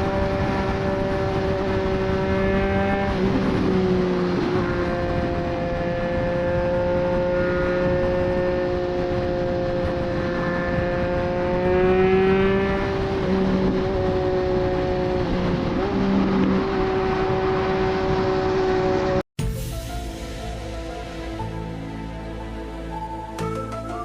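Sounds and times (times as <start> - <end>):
motorcycle engine cruising: 0.0 - 19.3
wind noise: 0.0 - 24.0.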